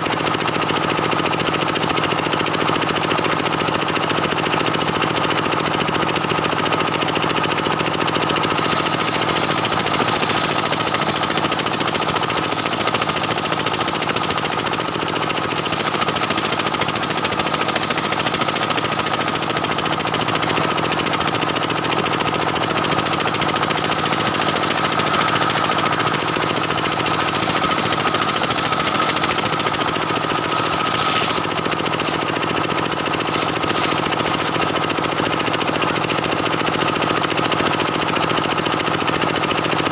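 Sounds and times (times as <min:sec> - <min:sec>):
chainsaw cutting wood: 0:00.0 - 0:37.8.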